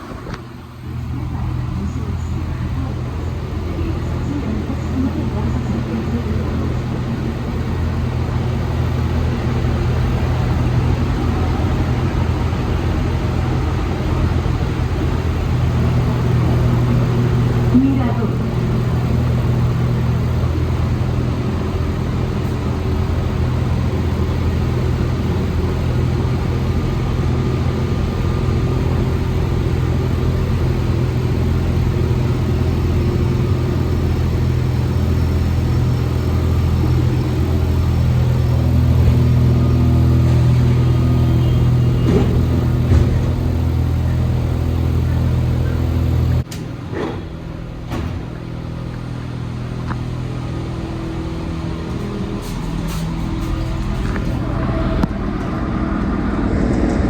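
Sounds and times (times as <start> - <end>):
metro car hum and rumble: 0.0 - 57.0.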